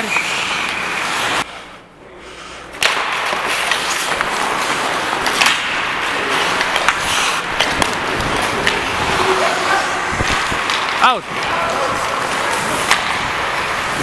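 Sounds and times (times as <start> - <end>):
skates scraping on ice: 0.0 - 1.8, 2.7 - 14.0.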